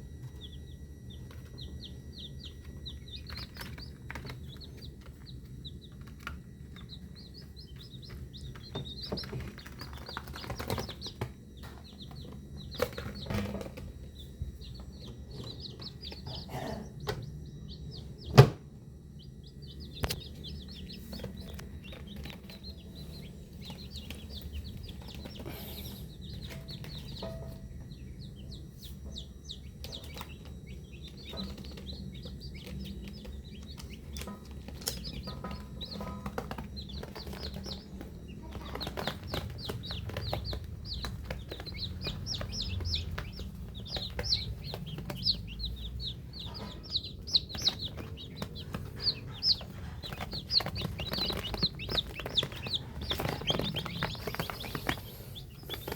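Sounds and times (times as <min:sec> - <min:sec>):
baby chicks peeping: 0:00.0 - 0:55.9
steady low hum: 0:00.0 - 0:55.9.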